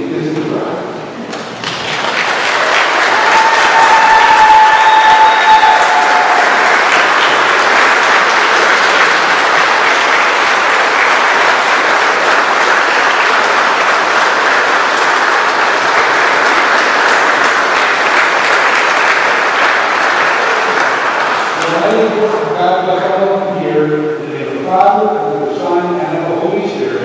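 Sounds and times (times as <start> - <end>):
congregation applauding: 1.3 - 23.4.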